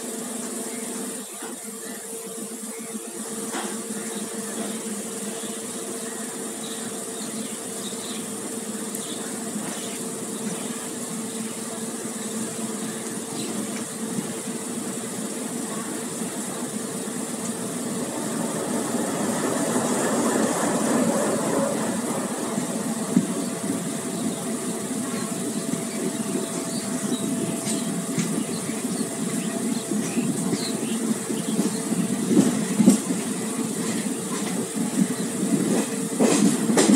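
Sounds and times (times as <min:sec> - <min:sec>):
train running rumble: 0:00.0 - 0:36.9.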